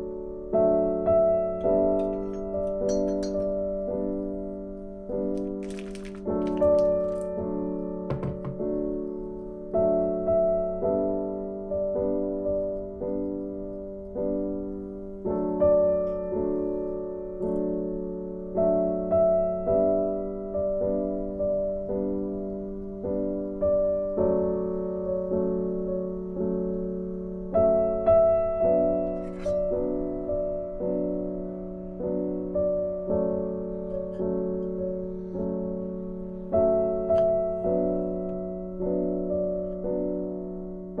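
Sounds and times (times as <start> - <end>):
gentle piano chords: 0.0 - 41.0.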